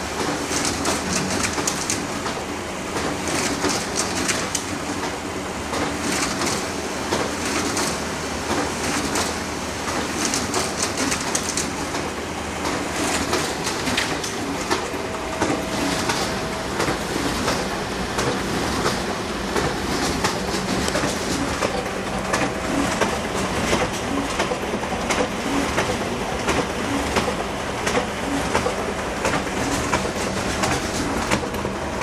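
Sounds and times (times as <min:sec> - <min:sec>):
photocopier whirring and clicking: 0:00.0 - 0:32.0.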